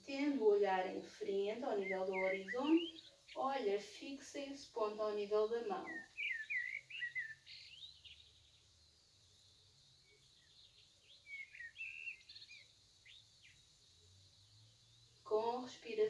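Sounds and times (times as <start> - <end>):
faint bird chirps: 0.1 - 16.0.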